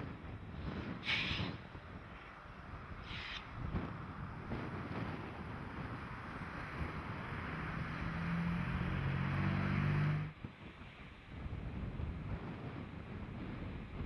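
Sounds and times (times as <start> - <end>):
diesel locomotive engine drone: 0.0 - 14.0
wind buffeting microphone: 0.0 - 14.0.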